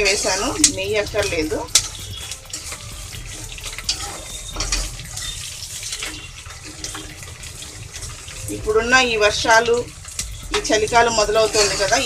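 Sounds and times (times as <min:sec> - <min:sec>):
onions sizzling in hot oil: 0:00.0 - 0:12.0
spatula scraping metal pot: 0:00.0 - 0:12.0.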